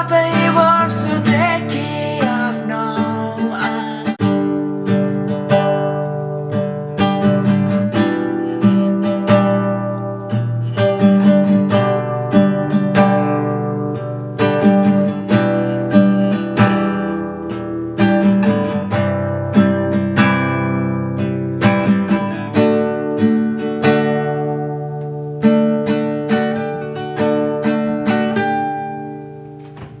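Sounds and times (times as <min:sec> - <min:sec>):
acoustic guitar playing chords: 0:00.0 - 0:30.0.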